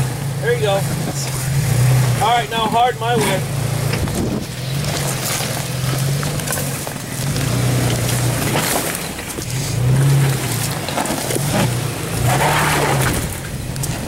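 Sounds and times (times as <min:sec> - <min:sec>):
rock crunching under tyres: 0:00.0 - 0:14.0
truck engine working under load: 0:00.0 - 0:14.0.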